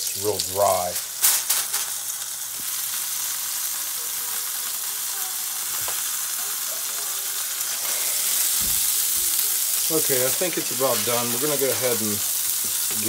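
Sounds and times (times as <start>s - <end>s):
burger patty sizzling in a pan: 0.0s - 13.0s.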